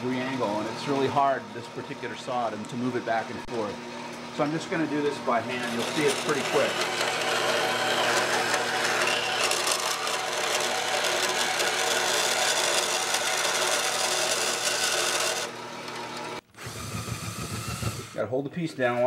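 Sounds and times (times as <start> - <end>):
band saw cutting metal: 0.0 - 18.3.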